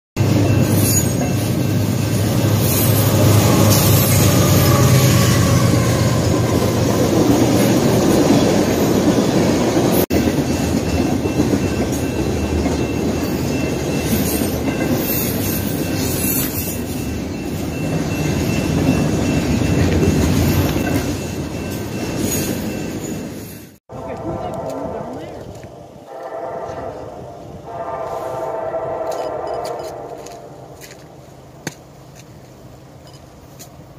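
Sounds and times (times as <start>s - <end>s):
freight train wheels rumbling: 0.2s - 33.9s.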